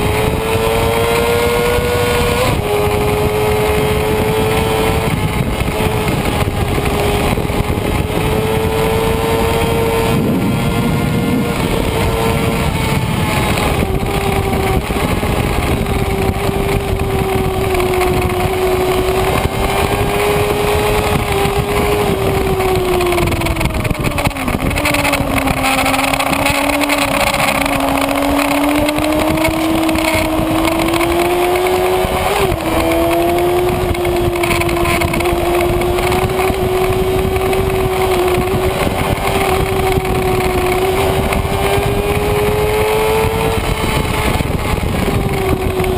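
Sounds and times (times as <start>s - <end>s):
motorcycle engine at high revs: 0.0s - 45.9s
wind noise: 0.0s - 45.9s.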